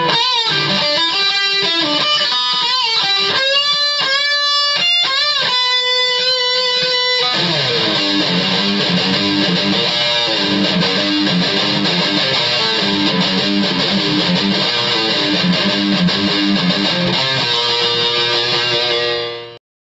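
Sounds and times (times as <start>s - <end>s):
electric guitar playing: 0.0s - 19.6s.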